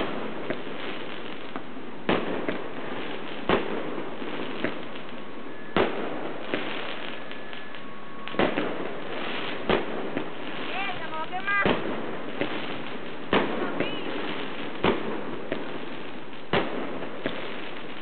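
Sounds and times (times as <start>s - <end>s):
distant fireworks crackling: 0.0s - 18.0s
firework bangs: 0.0s - 18.0s.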